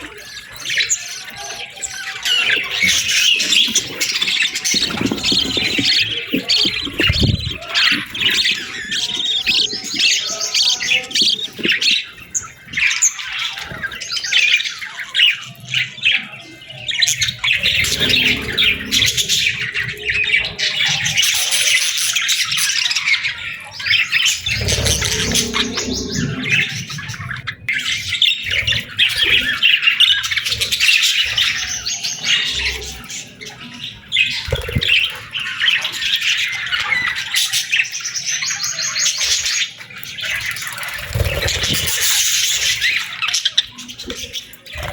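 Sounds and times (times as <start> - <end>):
flock of small birds chirping: 0.0 - 44.9.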